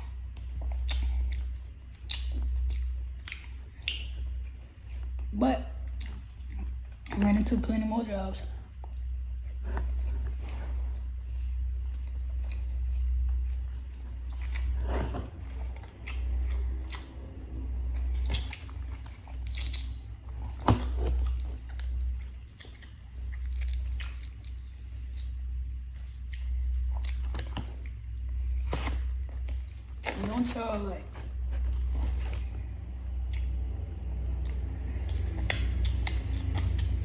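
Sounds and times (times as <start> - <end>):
person chewing crispy food: 0.0 - 7.2, 8.7 - 37.0
low hum: 0.0 - 37.0.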